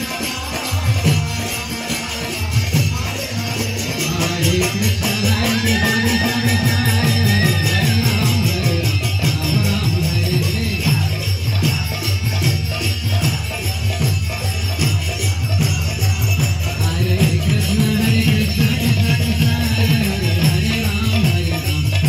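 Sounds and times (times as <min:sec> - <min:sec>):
hand cymbals jingling: 0:00.0 - 0:22.0.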